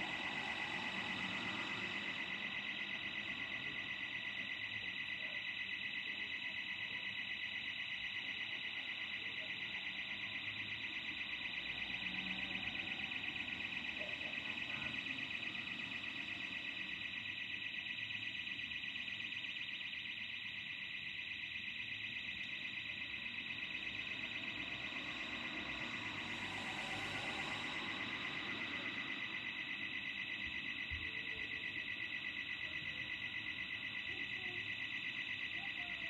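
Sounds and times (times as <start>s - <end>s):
burglar alarm pulsing tone: 0.0s - 36.0s.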